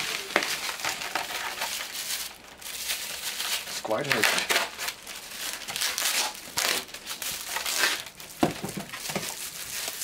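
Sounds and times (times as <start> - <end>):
plastic bag crinkling: 0.0 - 10.0
polystyrene foam handled: 0.0 - 10.0.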